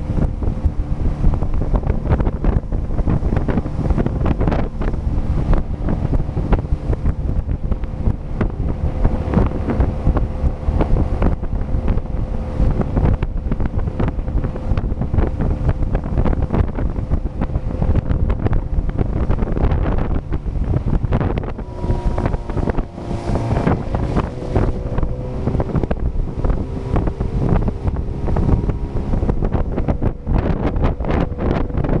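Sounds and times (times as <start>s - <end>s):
motorboat engine running: 0.0s - 32.0s
water rushing past hull: 0.0s - 32.0s
wind buffeting on microphone: 0.0s - 32.0s.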